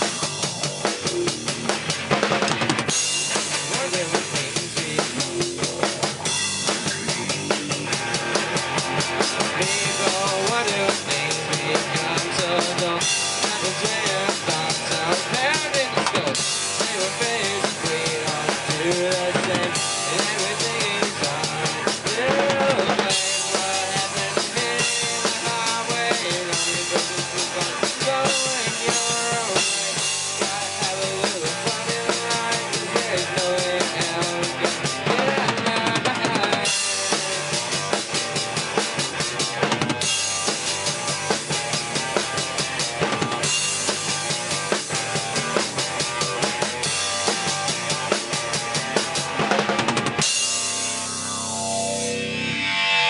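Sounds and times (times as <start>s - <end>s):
drum kit played hard: 0.0s - 53.0s
electric guitars: 0.0s - 53.0s.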